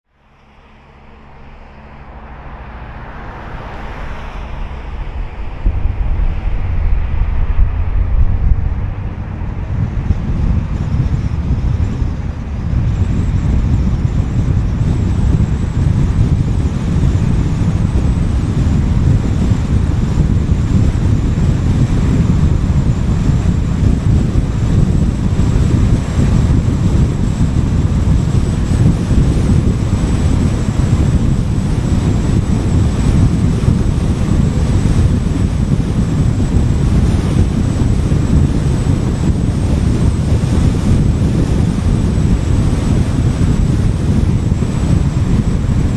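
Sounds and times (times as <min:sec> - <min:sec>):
car driving on highway: 0:00.1 - 0:45.9.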